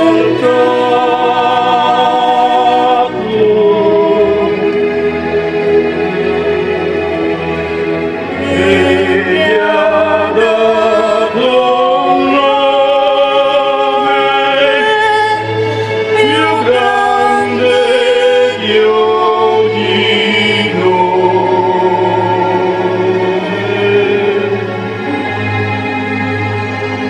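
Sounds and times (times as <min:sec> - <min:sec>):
choir singing: 0:00.0 - 0:27.0
steady low drone: 0:00.0 - 0:27.0.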